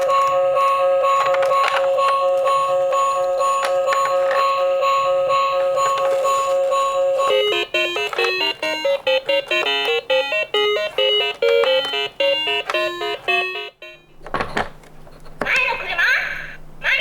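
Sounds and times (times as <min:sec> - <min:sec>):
quick beeping melody: 0:00.0 - 0:14.2.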